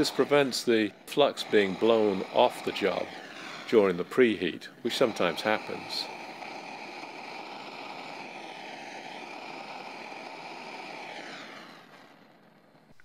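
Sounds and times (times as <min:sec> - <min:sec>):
torch flame hissing: 0:00.0 - 0:13.0.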